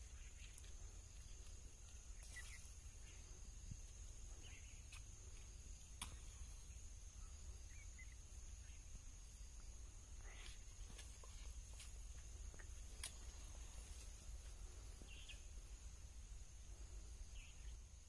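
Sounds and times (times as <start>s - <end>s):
faint bird chirps: 0.0s - 18.0s
steady high-pitched hum: 0.0s - 18.0s.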